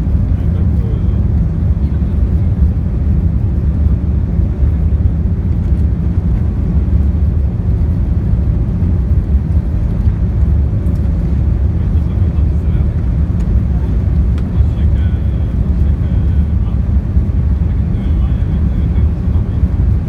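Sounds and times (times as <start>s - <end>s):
airflow over fuselage: 0.0s - 20.0s
jet engines rumbling in cabin: 0.0s - 20.0s.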